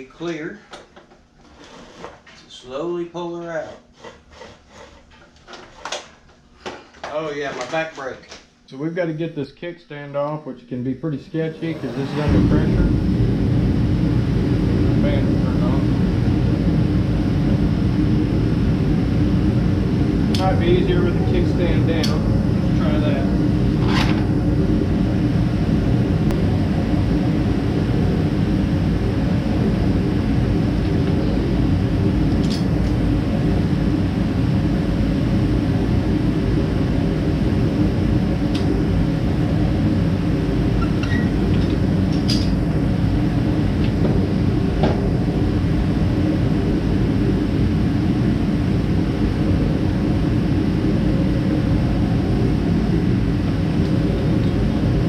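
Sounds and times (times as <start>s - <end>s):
electric fan droning: 0.0s - 55.0s.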